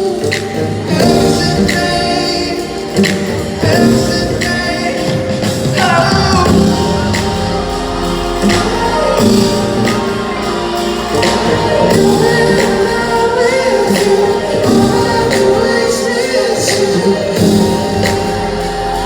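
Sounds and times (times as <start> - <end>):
live pop band playing: 0.0 - 19.0
person singing: 0.0 - 19.0
steady drumbeat: 0.0 - 19.0.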